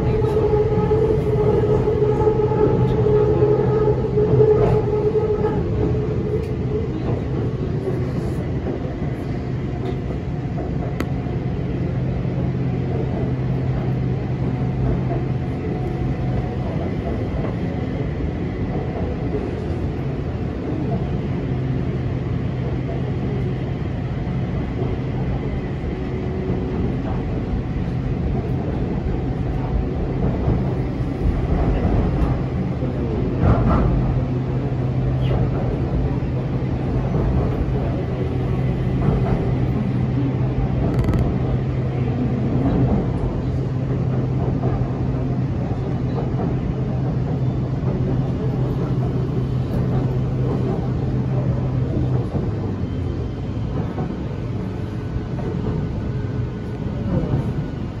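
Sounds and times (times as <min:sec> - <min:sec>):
wheels rumbling on track: 0:00.0 - 0:58.0.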